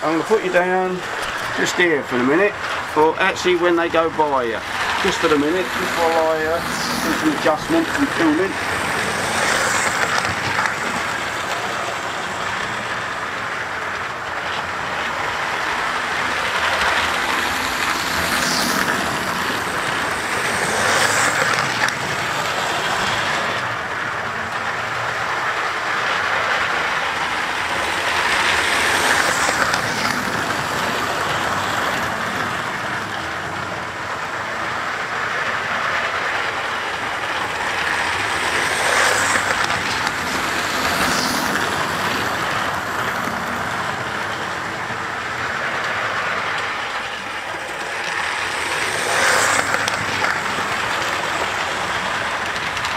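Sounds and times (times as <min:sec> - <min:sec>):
model train motors humming: 0:00.0 - 0:52.9.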